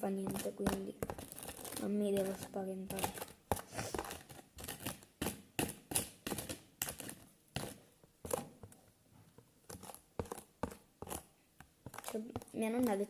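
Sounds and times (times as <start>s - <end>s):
crinkling and rustling handling: 0.0s - 13.0s.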